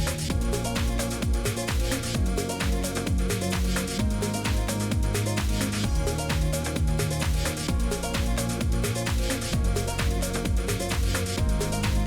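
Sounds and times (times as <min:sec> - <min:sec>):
electronic dance music: 0:00.0 - 0:12.0
kick-drum beat: 0:00.0 - 0:12.0.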